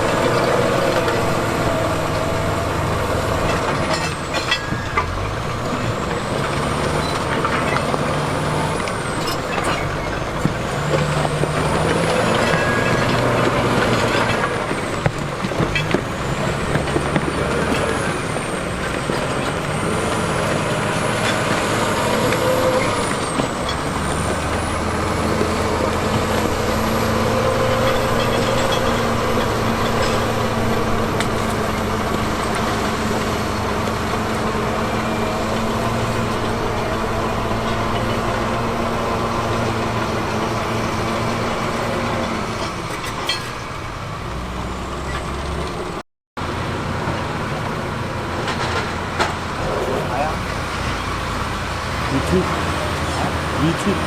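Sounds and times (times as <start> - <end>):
heavy diesel engine under load: 0.0 - 54.0.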